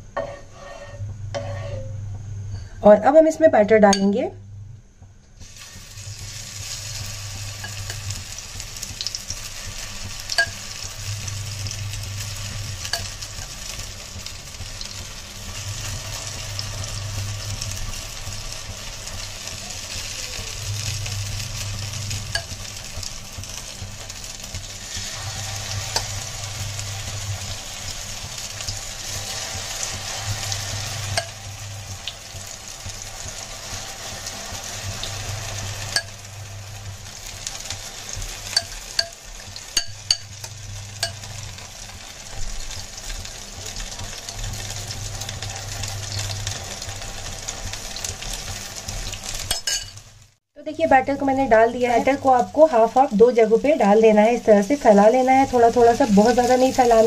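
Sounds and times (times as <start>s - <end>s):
batter sizzling in hot oil: 5.3s - 57.0s.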